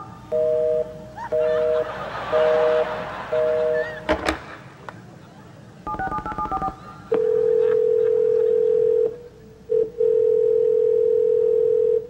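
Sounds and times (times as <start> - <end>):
telephone line tone: 0.0 - 4.0, 5.9 - 12.0.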